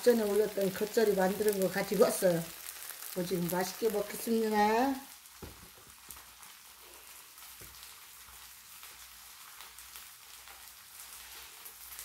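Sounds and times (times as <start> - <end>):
pancakes sizzling on griddle: 0.0 - 12.0.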